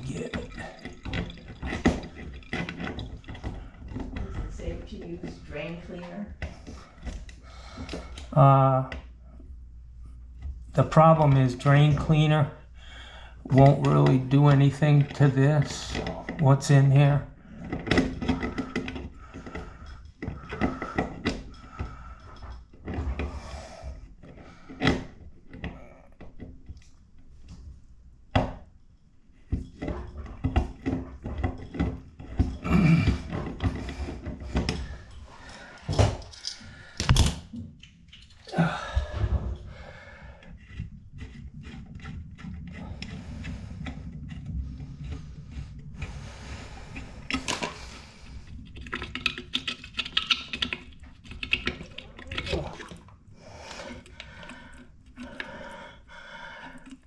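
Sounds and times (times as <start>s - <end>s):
hand tool scraping metal drain: 0.0s - 8.4s, 10.7s - 26.8s, 29.5s - 37.2s, 37.8s - 57.0s.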